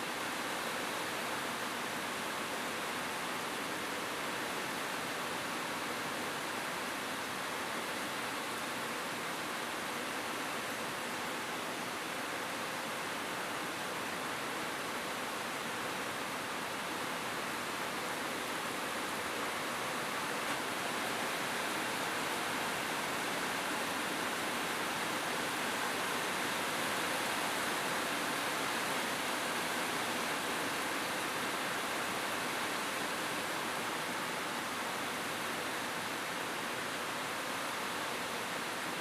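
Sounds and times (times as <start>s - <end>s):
rain falling on a roof: 0.0s - 39.0s.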